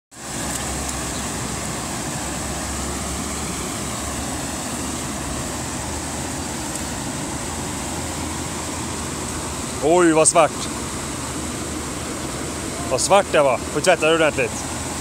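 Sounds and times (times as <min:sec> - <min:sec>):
river rushing over rocks: 0:00.2 - 0:15.0.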